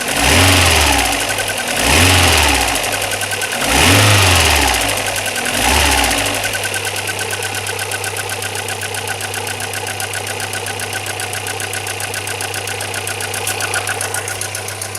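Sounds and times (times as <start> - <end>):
car engine revving and idling: 0.0 - 14.9
fast regular ticking: 0.1 - 14.9.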